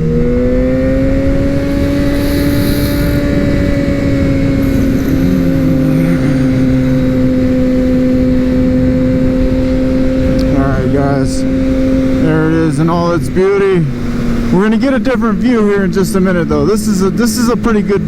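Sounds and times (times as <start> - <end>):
wind noise rushing: 0.0 - 17.3
motorcycle engine cruising: 0.0 - 18.0.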